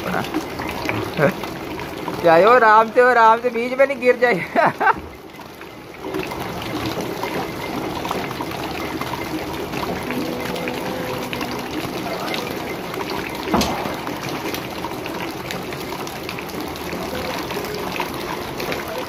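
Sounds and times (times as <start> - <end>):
rainwater pouring and splashing: 0.0 - 19.0.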